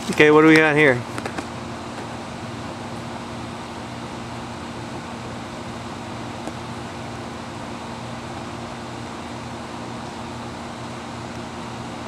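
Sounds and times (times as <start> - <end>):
steady machinery hum with hiss: 0.0 - 12.0.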